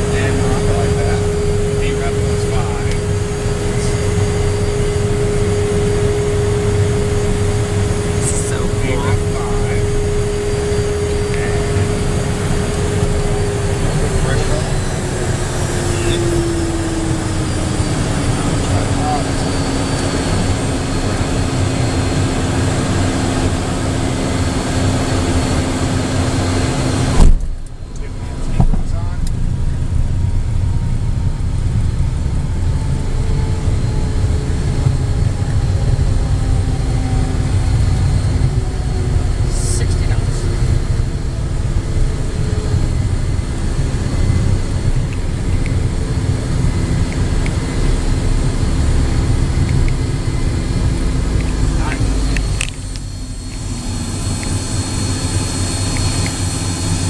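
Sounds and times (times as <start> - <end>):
constant low hum: 0.0 - 57.0
jet engine and airflow noise: 0.0 - 57.0.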